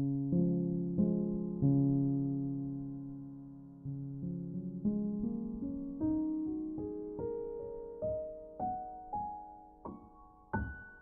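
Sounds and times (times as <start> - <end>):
gentle keyboard music: 0.0 - 11.0.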